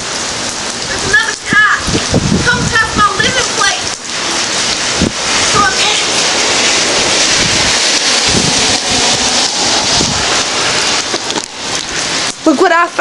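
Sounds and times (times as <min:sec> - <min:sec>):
steady rain: 0:00.0 - 0:13.0
wind buffeting microphone: 0:00.0 - 0:13.0.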